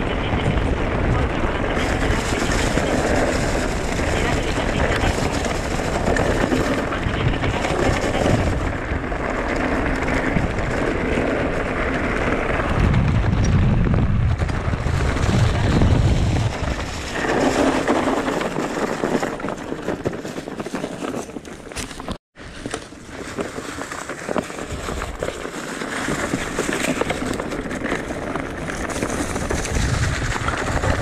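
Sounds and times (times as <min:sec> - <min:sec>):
wind rushing over microphone: 0:00.0 - 0:20.1, 0:24.3 - 0:31.0
bike tyres rolling on dirt: 0:00.0 - 0:31.0.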